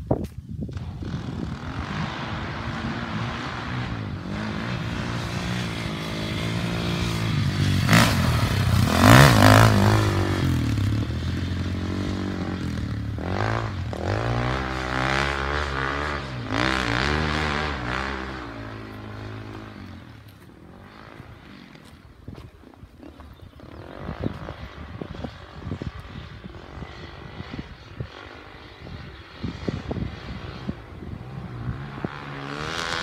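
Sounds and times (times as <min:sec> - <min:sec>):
dirt bike engine revving: 0:00.6 - 0:33.0.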